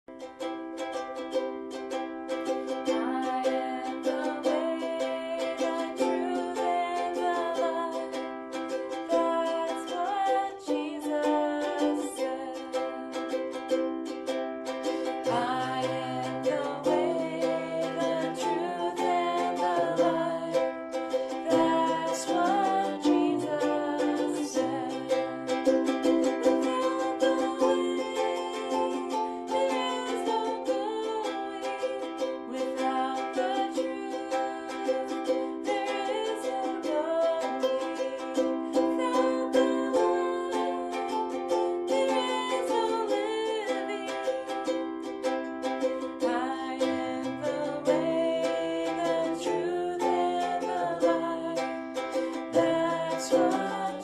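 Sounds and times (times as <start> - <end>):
strummed ukulele: 0.1 - 54.0.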